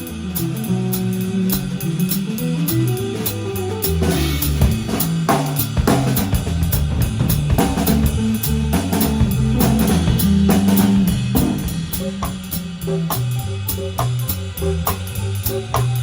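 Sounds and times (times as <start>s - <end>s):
drum kit: 0.0s - 16.0s
electric bass line: 0.0s - 16.0s
guitar: 0.0s - 16.0s.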